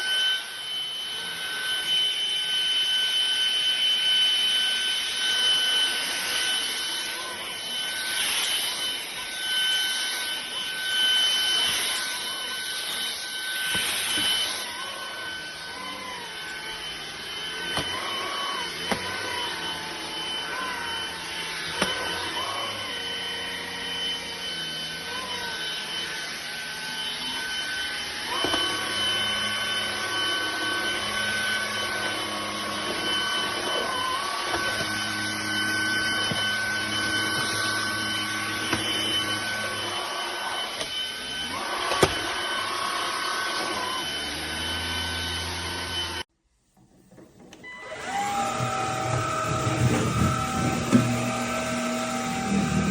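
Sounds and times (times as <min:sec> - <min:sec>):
vacuum cleaner motor whine: 0:00.0 - 0:52.9.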